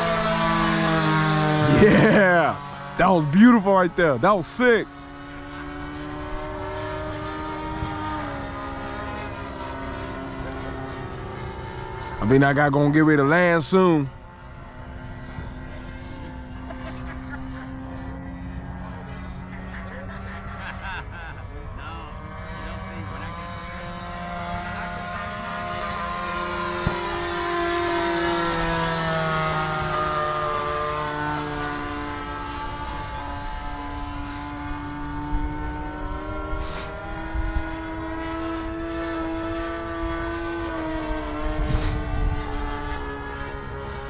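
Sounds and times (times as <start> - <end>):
model airplane engine droning: 0.0 - 44.0.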